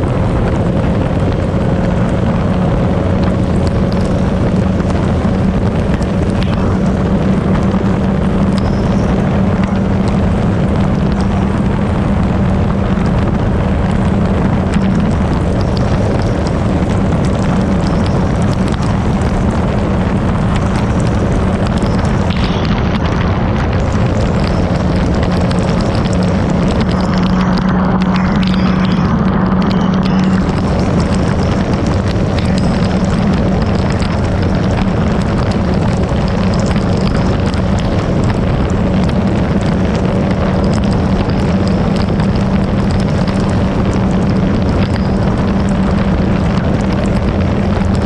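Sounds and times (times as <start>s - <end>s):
motorcycle engine droning: 0.0s - 48.0s.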